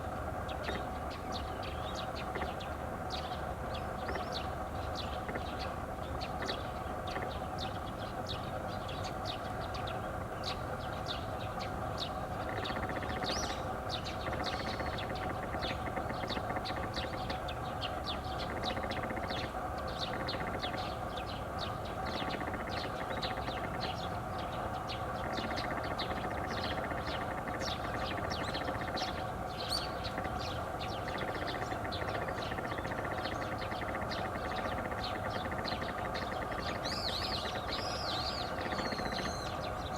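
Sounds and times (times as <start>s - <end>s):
background hum: 0.0s - 39.9s.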